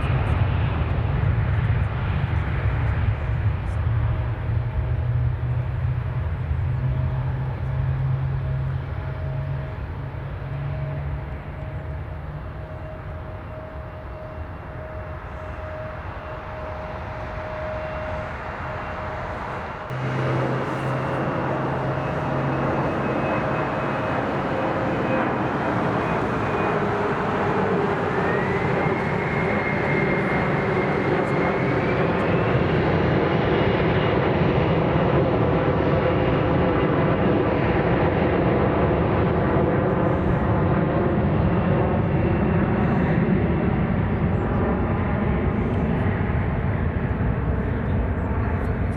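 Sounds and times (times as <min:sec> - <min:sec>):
jet airliner engines whining: 0:00.0 - 0:48.9.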